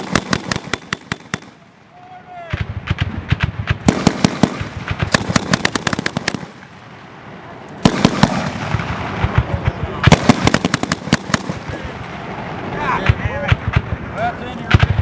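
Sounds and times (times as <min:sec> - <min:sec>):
grenade explosions cracking: 0:02.5 - 0:15.0.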